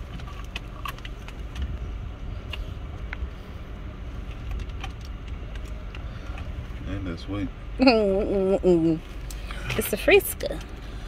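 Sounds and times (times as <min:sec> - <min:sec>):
engine idling rumble: 0:00.0 - 0:11.0.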